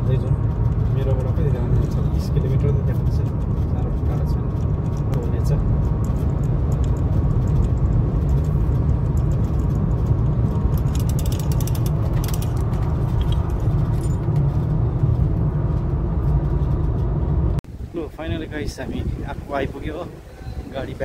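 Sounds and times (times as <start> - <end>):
car road rumble: 0.0 - 21.0.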